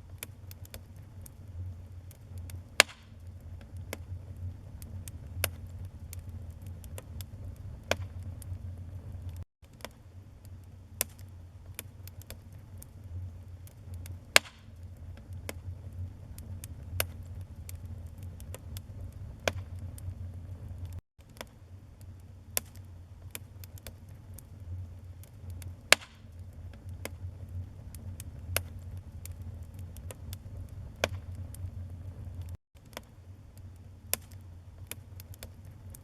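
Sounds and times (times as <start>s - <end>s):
fire pops: 0.0s - 36.0s
low steady rumble: 0.0s - 36.0s
wood fire crackling: 0.0s - 36.0s.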